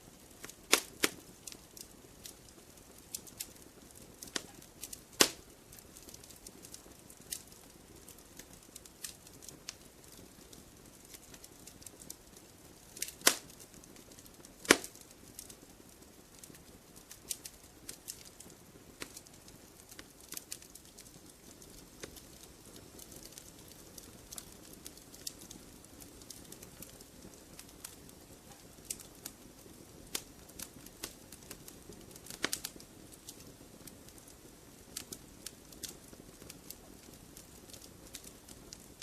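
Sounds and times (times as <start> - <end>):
campfire crackling and popping: 0.0 - 39.0
soft low fire hiss: 0.0 - 39.0.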